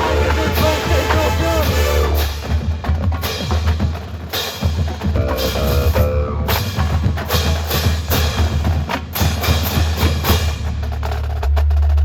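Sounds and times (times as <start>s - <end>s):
marching band music: 0.0s - 11.8s
heavy drums and percussion: 0.0s - 12.0s.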